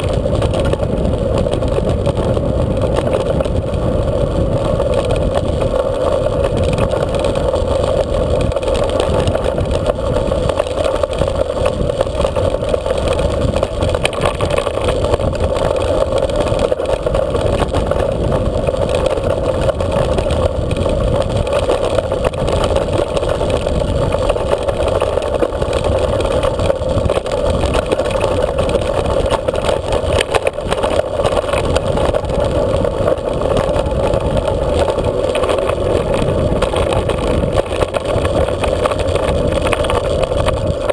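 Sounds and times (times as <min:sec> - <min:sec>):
bike rattling on rough track: 0:00.0 - 0:40.9
wind rushing over camera: 0:00.0 - 0:40.9.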